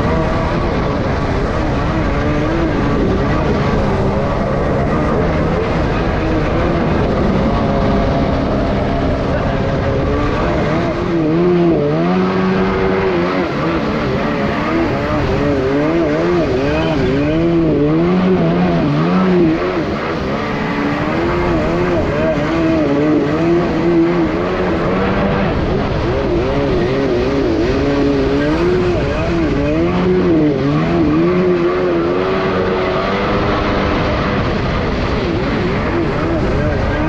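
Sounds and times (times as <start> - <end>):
jet ski engine running hard: 0.0 - 37.0
steady rushing noise: 0.0 - 37.0.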